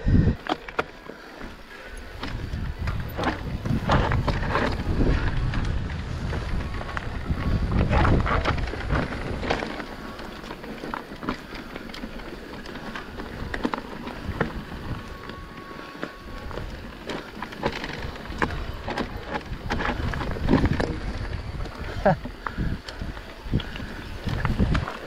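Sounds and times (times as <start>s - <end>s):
wind buffeting microphone: 0.0s - 0.5s, 1.4s - 25.0s
bike rattling on rough trail: 0.0s - 25.0s.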